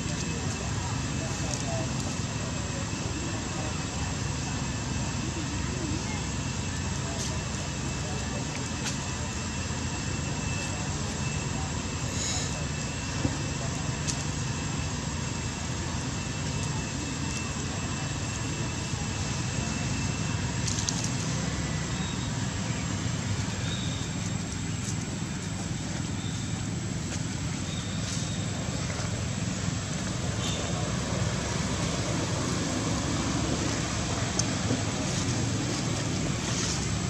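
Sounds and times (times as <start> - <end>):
low outdoor rumble: 0.0 - 37.0.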